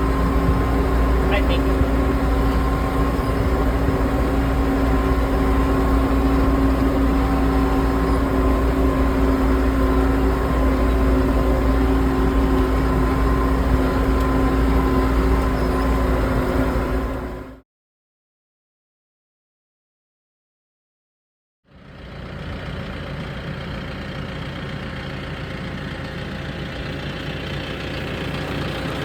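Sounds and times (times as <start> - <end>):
tractor engine running: 0.0 - 17.6, 21.8 - 29.0.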